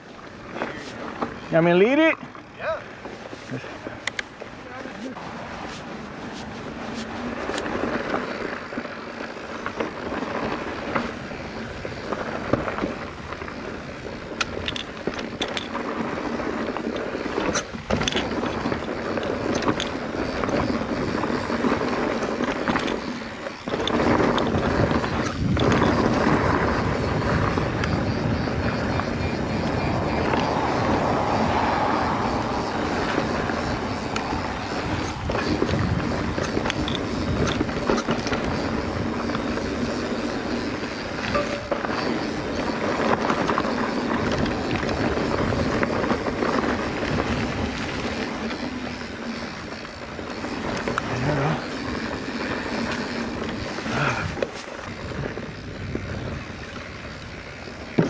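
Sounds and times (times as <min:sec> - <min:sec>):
bike rattles and knocks: 0:00.0 - 0:58.0
bike tyre noise: 0:00.0 - 0:58.0
wind rushing over microphone: 0:00.0 - 0:58.0.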